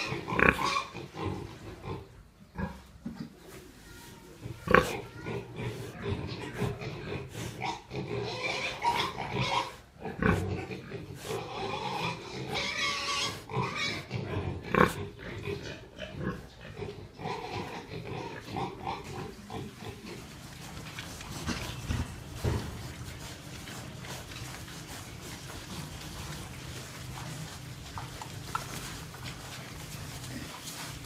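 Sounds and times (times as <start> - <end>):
pigs grunting and snuffling: 0.0 - 31.0.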